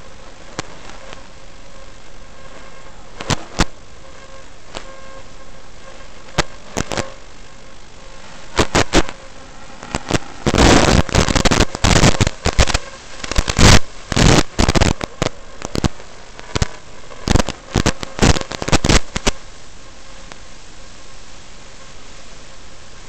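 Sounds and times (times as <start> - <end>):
loud crackling bursts: 0.0 - 23.0
steady static hiss: 0.0 - 23.0.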